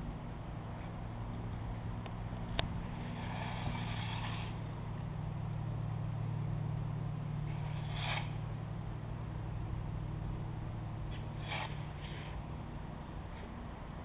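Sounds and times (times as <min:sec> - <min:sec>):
ferry engines droning: 0:00.0 - 0:14.0.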